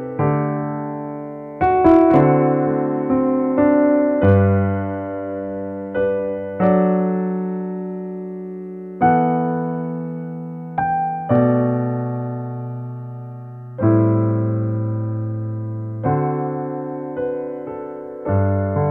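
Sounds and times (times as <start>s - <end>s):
gentle piano chords: 0.0s - 18.9s.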